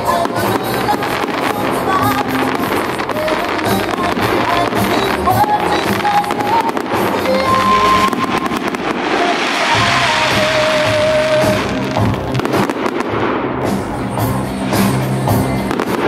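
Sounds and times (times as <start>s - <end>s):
fireworks bangs and crackling: 0.0s - 16.0s
music playing: 0.0s - 16.0s.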